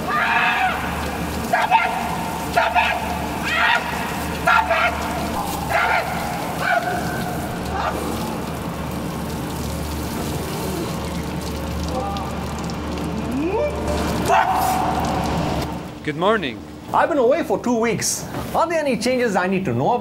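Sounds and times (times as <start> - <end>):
water pouring and splashing: 0.0 - 16.0.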